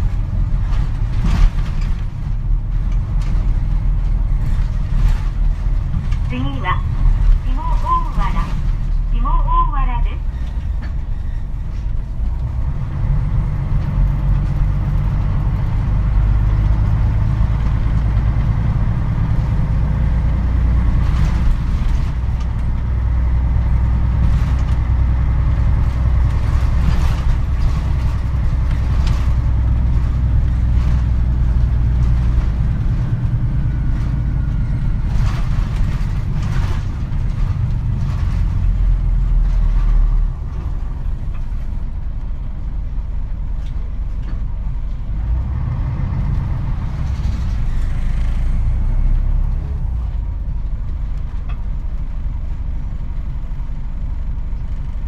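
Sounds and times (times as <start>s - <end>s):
bus diesel engine rumble: 0.0s - 55.0s.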